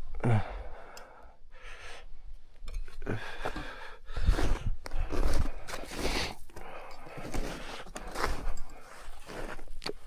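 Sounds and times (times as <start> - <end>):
person breathing hard: 0.0 - 2.2, 3.0 - 9.6.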